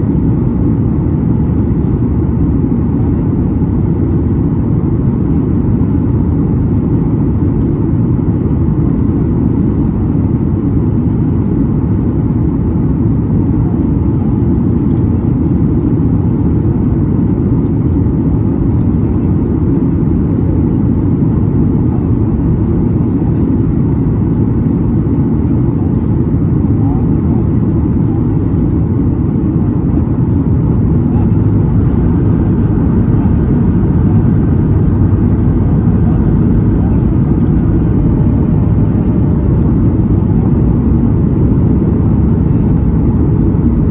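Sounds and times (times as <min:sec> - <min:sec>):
airflow over fuselage: 0:00.0 - 0:43.9
jet engines droning: 0:00.0 - 0:43.9.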